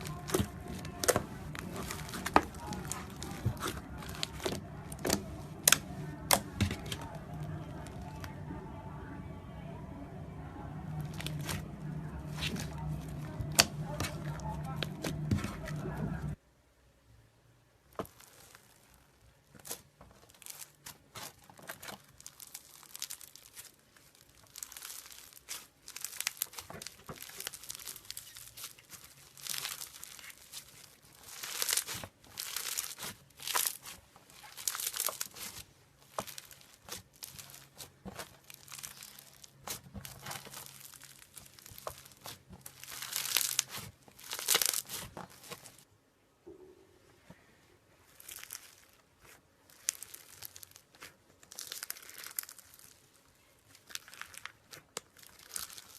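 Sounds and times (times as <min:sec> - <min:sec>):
slime squishing and crackling: 0:00.0 - 0:09.2, 0:09.8 - 0:16.4, 0:17.9 - 0:45.9, 0:48.0 - 0:55.9.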